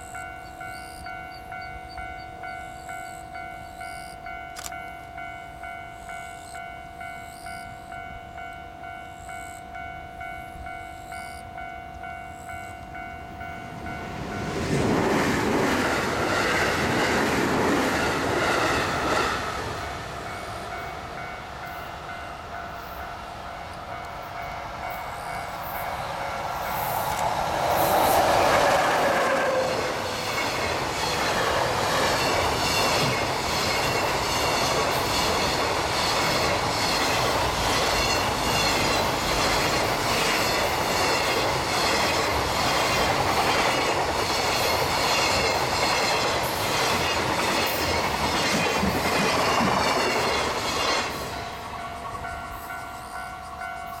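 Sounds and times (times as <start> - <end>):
electric locomotive passing: 0.0 - 54.0.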